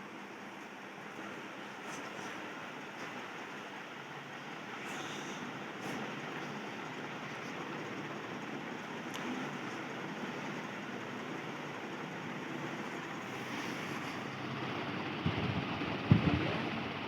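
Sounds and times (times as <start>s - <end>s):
ceiling fan whirring: 0.0s - 17.0s.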